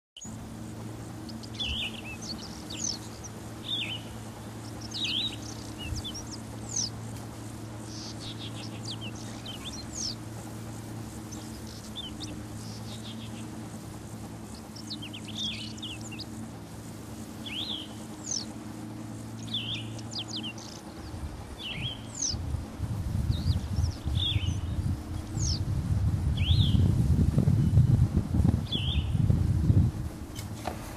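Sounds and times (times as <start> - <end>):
small birds chirping: 0.2 - 29.3
steady low hum: 0.2 - 30.9.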